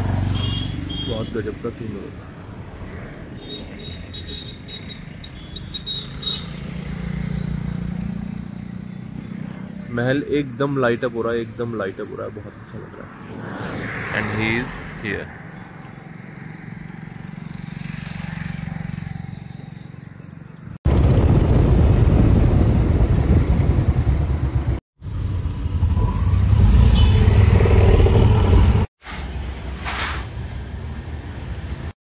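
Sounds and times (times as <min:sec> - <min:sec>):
outdoor road sound: 0:00.0 - 0:32.0.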